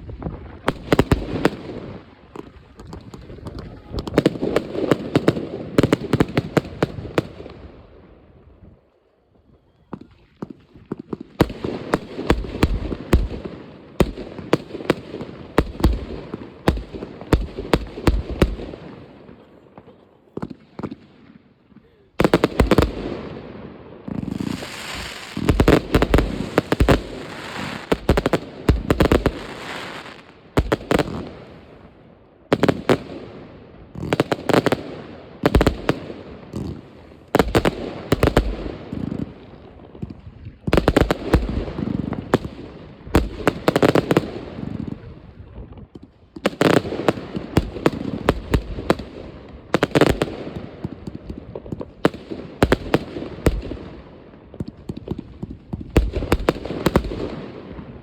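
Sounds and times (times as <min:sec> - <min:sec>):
fireworks crackling: 0:00.0 - 0:07.6, 0:09.8 - 0:58.0
fireworks bangs: 0:09.9 - 0:45.1, 0:45.8 - 0:58.0.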